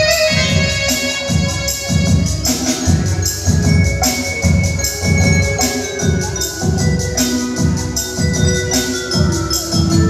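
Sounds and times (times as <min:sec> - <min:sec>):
electronic keyboard chords: 0:00.0 - 0:10.0
jingling hand percussion: 0:00.0 - 0:10.0
tabla beat: 0:00.0 - 0:10.0.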